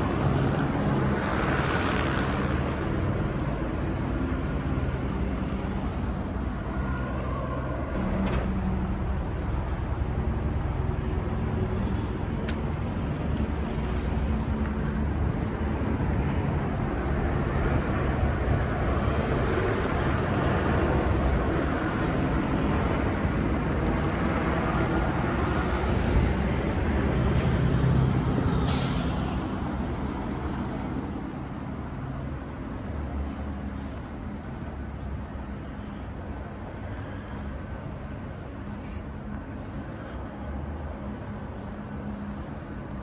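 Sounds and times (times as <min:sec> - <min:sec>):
street traffic rumbling: 0:00.0 - 0:43.0.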